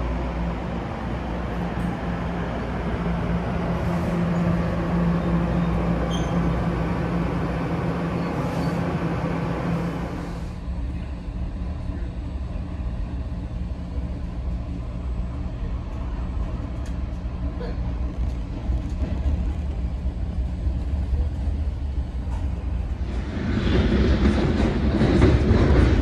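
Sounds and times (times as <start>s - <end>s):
diesel locomotive rumbling: 0.0s - 26.0s.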